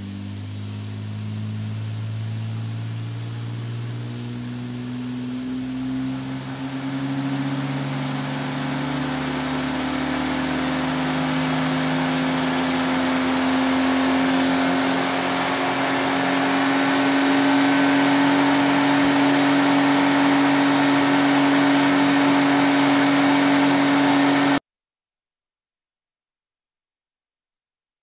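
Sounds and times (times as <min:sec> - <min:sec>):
engine running under heavy load: 0:00.0 - 0:24.6.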